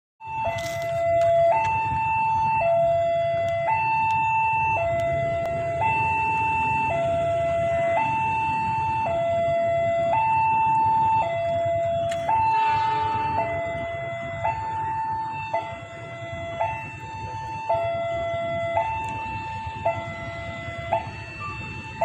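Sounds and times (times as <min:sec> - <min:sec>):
two-tone crossing alarm: 0:00.2 - 0:22.0.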